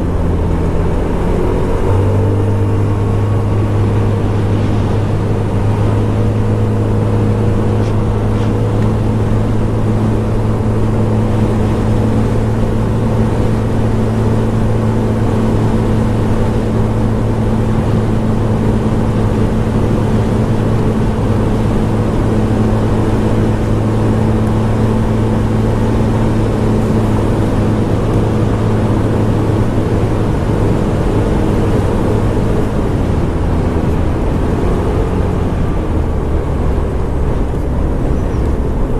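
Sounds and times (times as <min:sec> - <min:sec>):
road and wind noise: 0:00.0 - 0:38.9
scooter engine running: 0:00.0 - 0:38.9.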